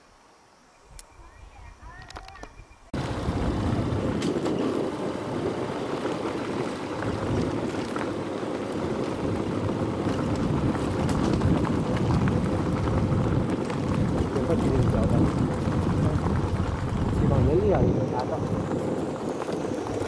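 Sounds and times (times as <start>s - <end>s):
wind on microphone: 0.8s - 20.0s
vehicle engine and road noise: 1.9s - 20.0s.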